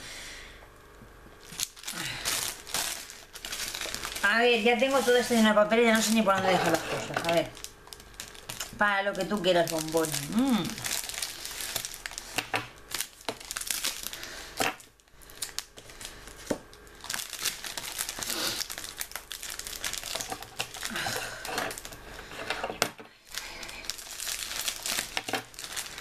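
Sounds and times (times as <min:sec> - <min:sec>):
wrapping paper crumpling and tearing: 0:01.4 - 0:26.0.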